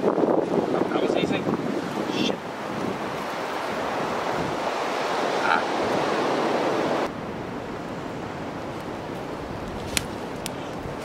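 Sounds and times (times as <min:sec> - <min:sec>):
ocean surf: 0:00.0 - 0:09.7
wind buffeting microphone: 0:00.0 - 0:11.0.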